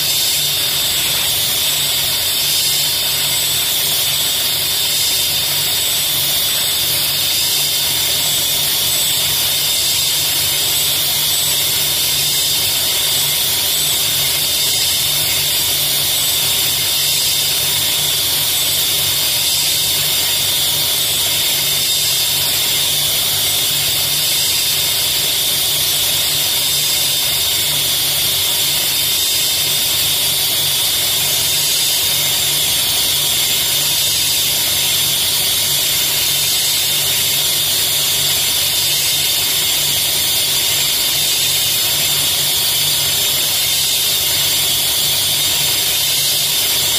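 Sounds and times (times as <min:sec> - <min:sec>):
laser cutting machine hiss: 0:00.0 - 0:46.9.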